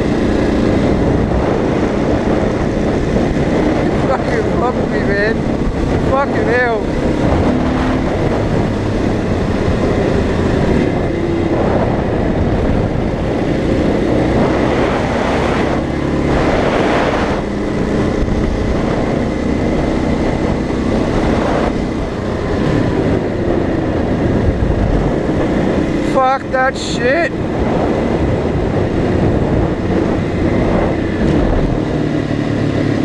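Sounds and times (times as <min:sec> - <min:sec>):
dirt bike engine: 0:00.0 - 0:33.0
wind rush: 0:00.0 - 0:33.0.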